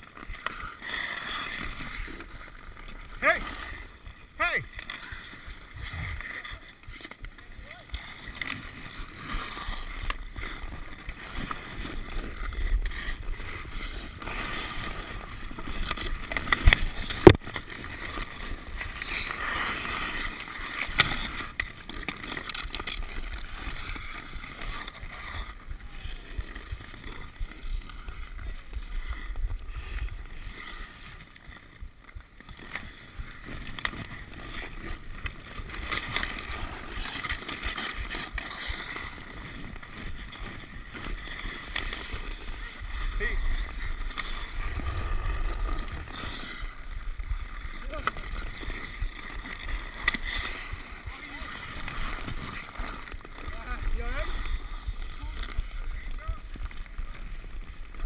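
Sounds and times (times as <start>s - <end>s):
hockey sticks clacking: 0.0s - 58.0s
ice skates scraping on ice: 0.0s - 58.0s.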